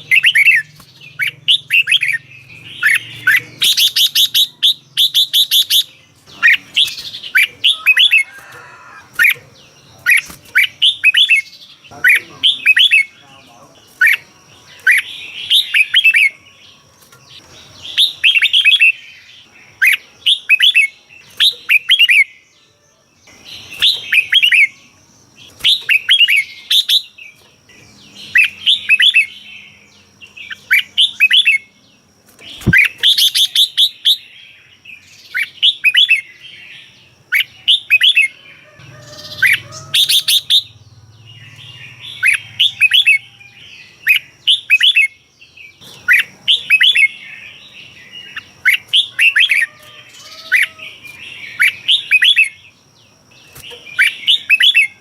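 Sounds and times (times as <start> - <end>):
bird singing warbling phrases: 0.0 - 55.0.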